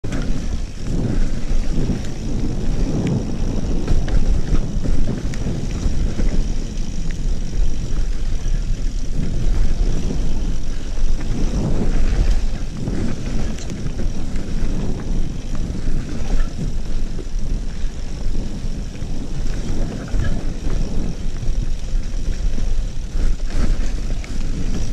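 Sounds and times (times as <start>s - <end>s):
bike tyres rolling on dirt: 0.0s - 24.9s
wind rush on microphone: 0.0s - 24.9s.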